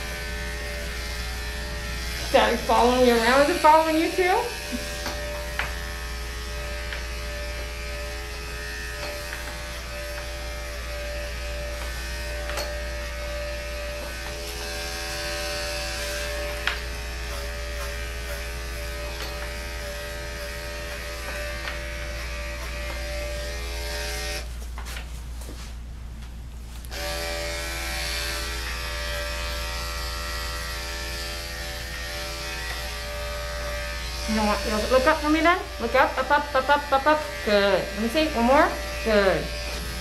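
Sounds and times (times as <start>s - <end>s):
electric clipper buzzing: 0.0s - 24.5s, 26.8s - 40.0s.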